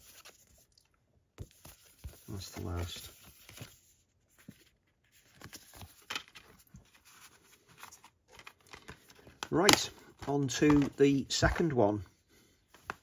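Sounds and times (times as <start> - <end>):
handling cardboard packaging: 1.4 - 12.0.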